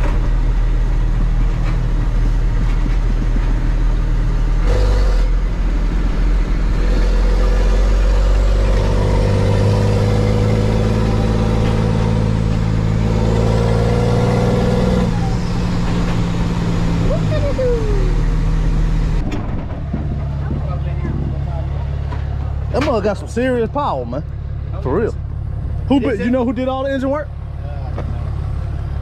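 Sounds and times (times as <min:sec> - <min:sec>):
truck diesel engine accelerating: 0:00.0 - 0:29.0.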